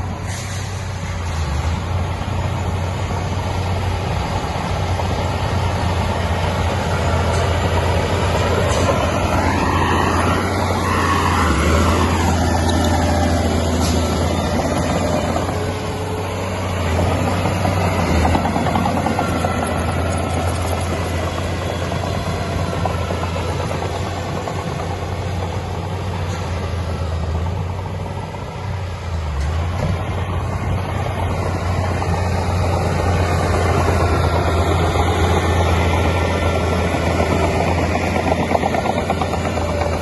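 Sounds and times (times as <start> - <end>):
heavy diesel engine humming: 0.0 - 40.0.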